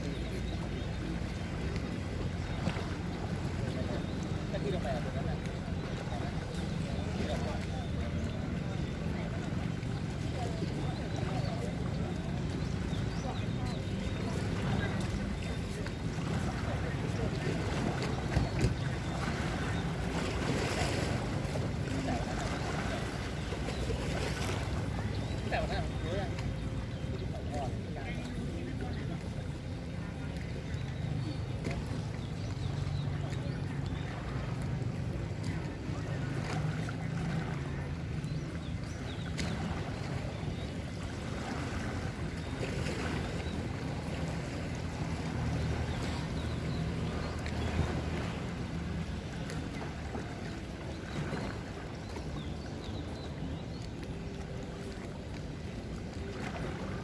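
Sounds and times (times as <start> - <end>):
faint distant voices: 0.0 - 57.0
low engine hum: 0.0 - 57.0
surf washing: 0.0 - 57.0.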